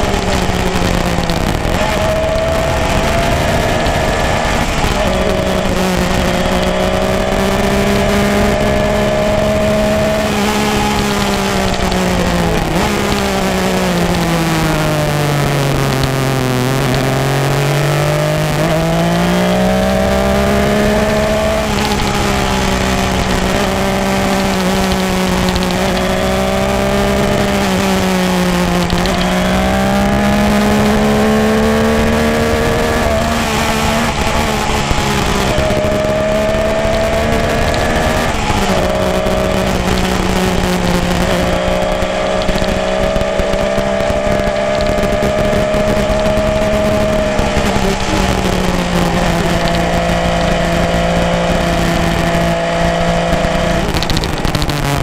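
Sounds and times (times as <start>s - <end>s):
motorcycle exhaust note: 0.0s - 55.0s.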